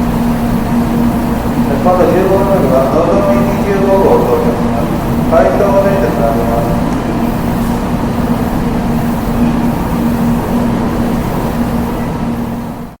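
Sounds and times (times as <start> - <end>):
constant low hum: 0.0 - 13.0
train rumbling: 0.0 - 13.0.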